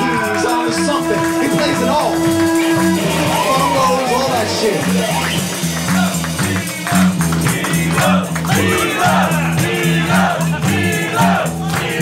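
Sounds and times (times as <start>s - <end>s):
live band jamming: 0.0s - 12.0s
repeating bass line: 0.0s - 12.0s.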